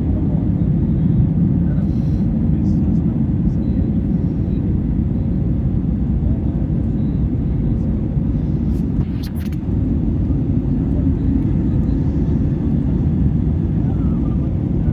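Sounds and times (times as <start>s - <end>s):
jet engines rumbling: 0.0s - 14.9s.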